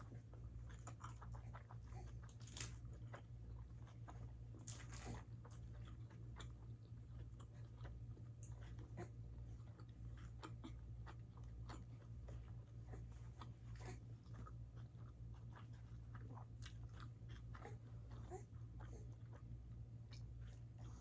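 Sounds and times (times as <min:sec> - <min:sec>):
person chewing: 0:00.0 - 0:21.0
steady low hum: 0:00.0 - 0:21.0.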